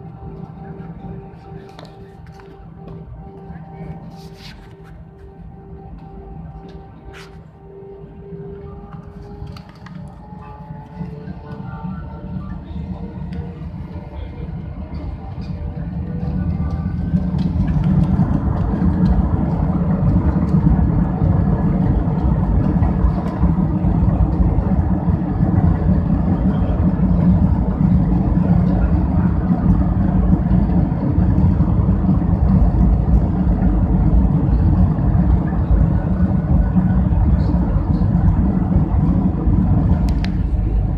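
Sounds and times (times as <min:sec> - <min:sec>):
jet engines and runway rumble: 0:00.0 - 0:40.9.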